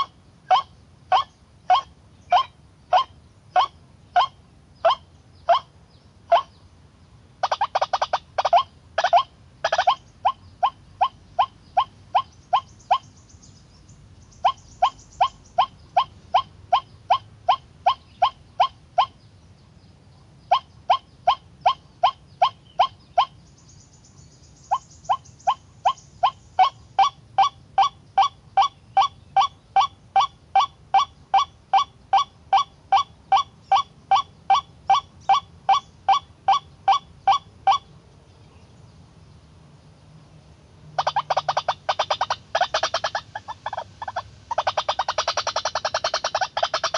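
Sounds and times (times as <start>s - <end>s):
waterhen calling: 0.0s - 5.7s, 6.3s - 6.6s, 7.4s - 13.2s, 14.4s - 19.2s, 20.5s - 23.4s, 24.7s - 37.9s, 41.0s - 46.9s.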